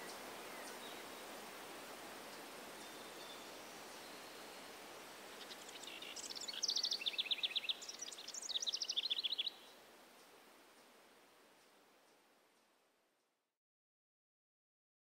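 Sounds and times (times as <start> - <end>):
outdoor background noise: 0.0 - 13.5.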